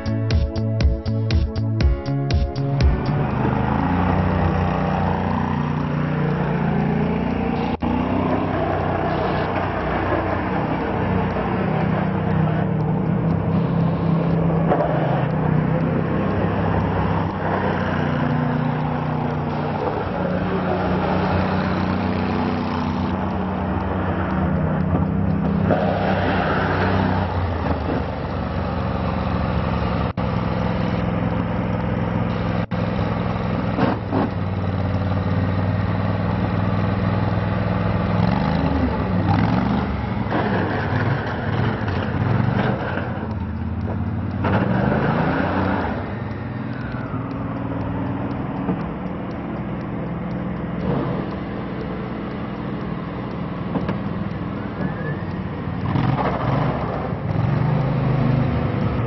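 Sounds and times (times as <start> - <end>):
gas engine running: 0.0 - 59.0.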